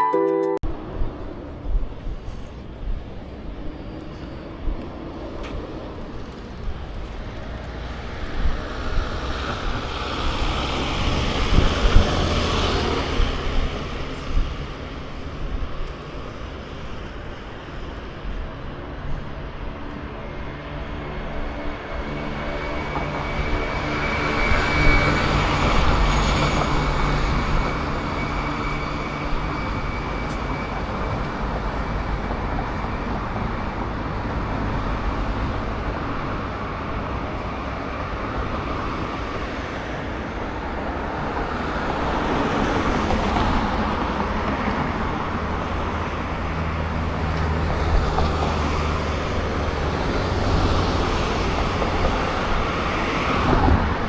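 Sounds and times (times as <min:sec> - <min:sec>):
cars passing: 0:00.7 - 0:54.0.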